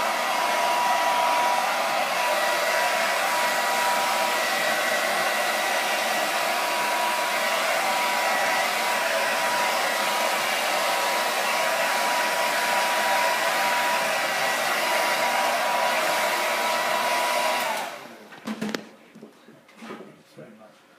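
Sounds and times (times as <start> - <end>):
hair dryer blowing with whine: 0.0 - 18.3.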